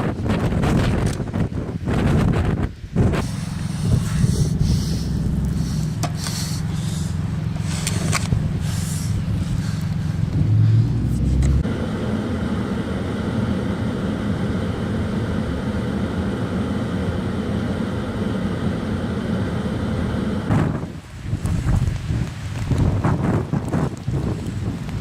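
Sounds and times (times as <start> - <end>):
gusty wind: 0.0 - 25.0
vehicle engine and road rumble: 0.0 - 25.0.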